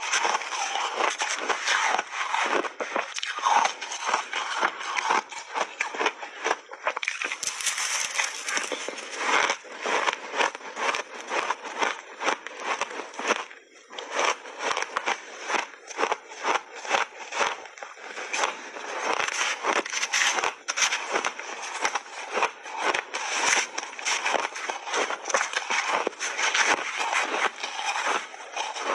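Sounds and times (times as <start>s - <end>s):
crunching of chewed ice: 0.0s - 28.9s.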